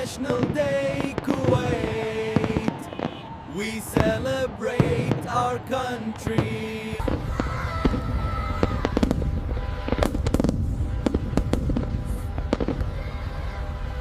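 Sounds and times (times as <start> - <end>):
continuous low rumble: 0.0 - 14.0
fireworks bangs and crackles: 0.0 - 14.0.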